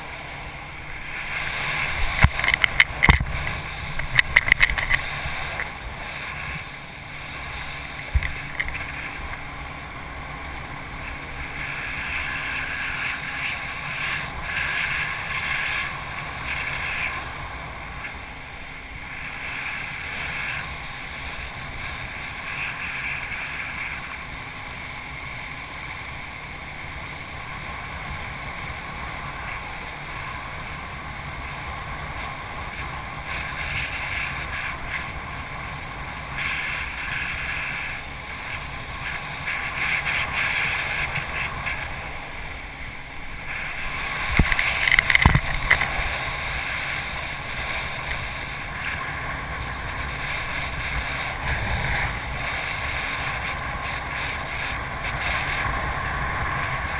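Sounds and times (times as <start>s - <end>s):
water rushing under wakeboard: 0.0s - 56.9s
wind buffeting camera: 0.0s - 56.9s.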